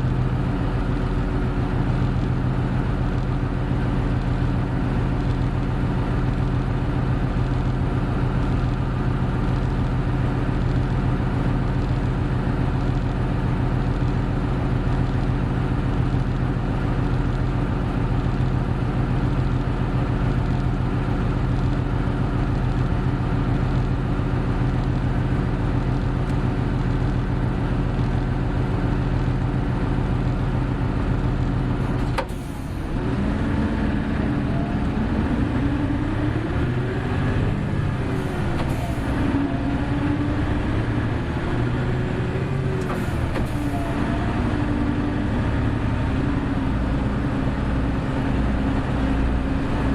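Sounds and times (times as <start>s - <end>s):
bus diesel engine running: 0.0s - 49.9s.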